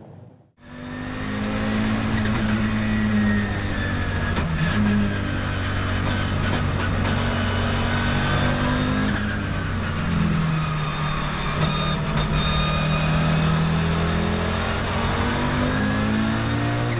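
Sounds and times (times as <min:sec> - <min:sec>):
car engine accelerating: 0:00.6 - 0:16.9.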